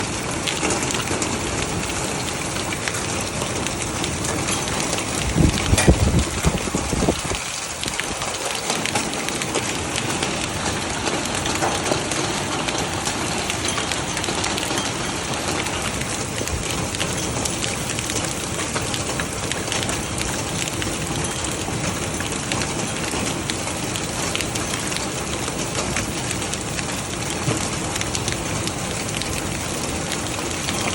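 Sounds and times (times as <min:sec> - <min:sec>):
hailstones ticking: 0:00.0 - 0:30.9
heavy rain and hail hissing: 0:00.0 - 0:30.9.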